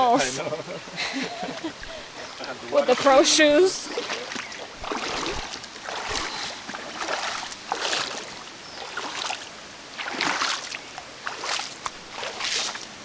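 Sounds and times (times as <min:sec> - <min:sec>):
river water rushing over rocks: 0:01.4 - 0:13.0.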